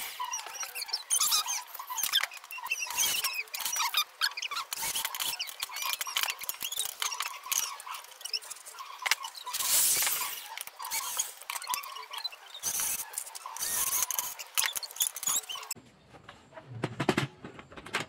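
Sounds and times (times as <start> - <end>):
high-pitched squeaks and chirps: 0.0 - 15.8.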